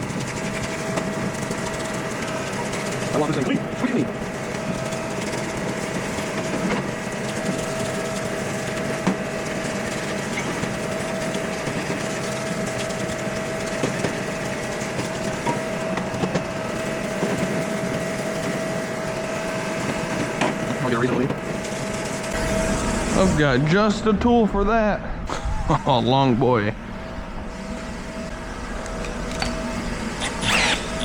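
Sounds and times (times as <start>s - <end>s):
parts washer whining: 0.0s - 31.0s.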